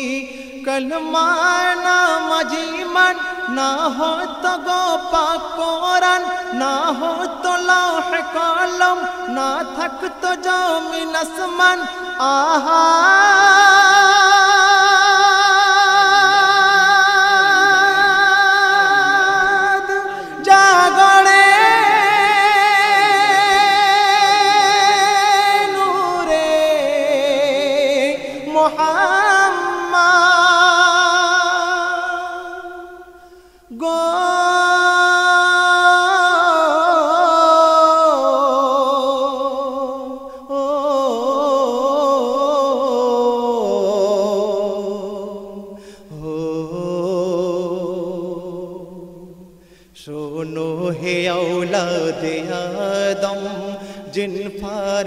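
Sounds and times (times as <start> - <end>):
person singing with vibrato: 0.0 - 55.0.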